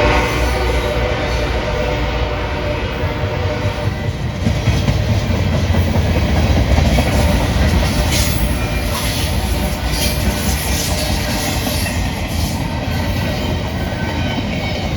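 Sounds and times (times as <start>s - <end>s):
freight train wheels rumbling on rails: 0.0s - 14.9s.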